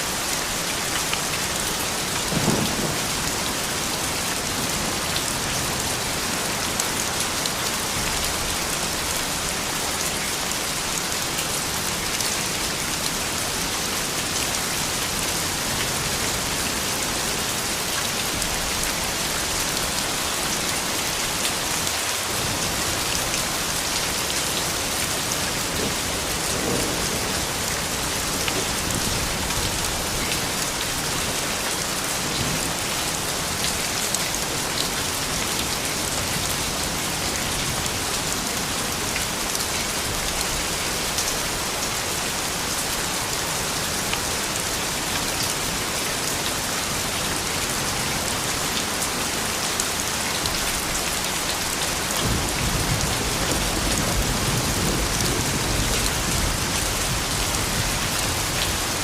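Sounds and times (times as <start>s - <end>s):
soft rain falling: 0.0s - 59.0s.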